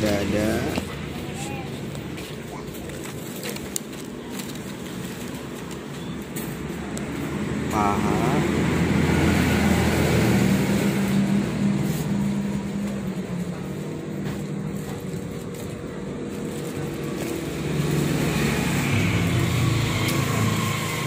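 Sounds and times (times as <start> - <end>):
vehicle engines humming: 0.0 - 21.0.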